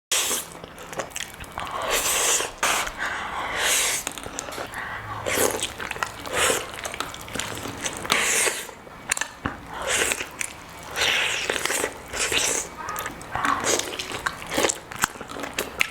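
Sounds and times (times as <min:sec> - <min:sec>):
crunchy chewing: 0:00.1 - 0:15.9.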